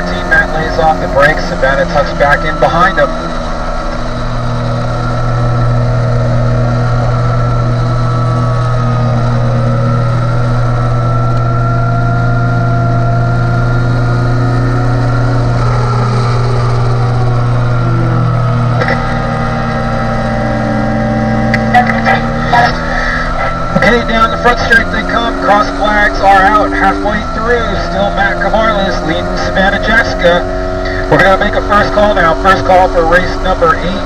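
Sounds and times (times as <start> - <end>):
motorcycle engine at high revs: 0.0 - 34.0.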